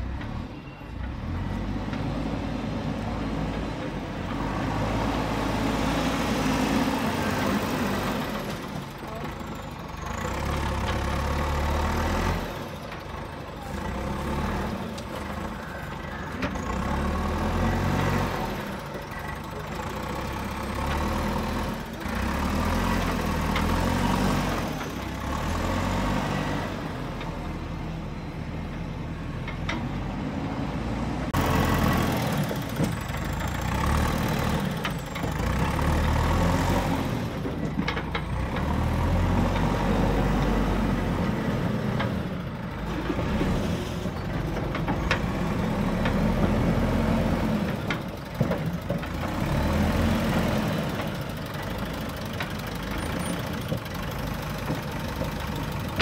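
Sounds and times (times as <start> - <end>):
diesel engine revving: 1.1 - 56.0.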